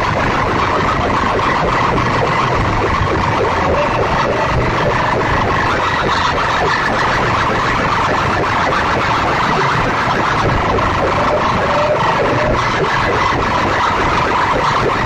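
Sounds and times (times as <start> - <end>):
distorted loudspeakers blasting: 0.0 - 15.0.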